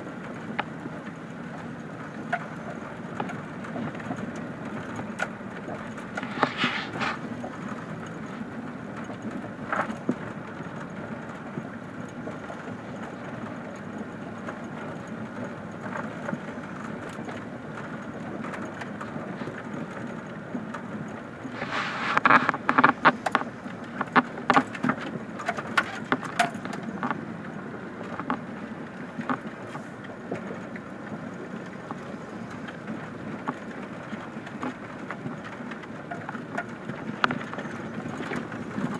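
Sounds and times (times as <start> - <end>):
vehicle engine and tyre noise: 0.0 - 38.9.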